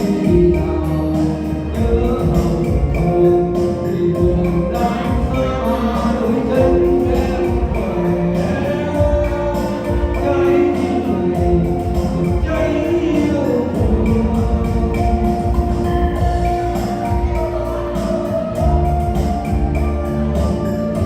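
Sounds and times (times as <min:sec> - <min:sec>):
song with steady beat: 0:00.0 - 0:21.0.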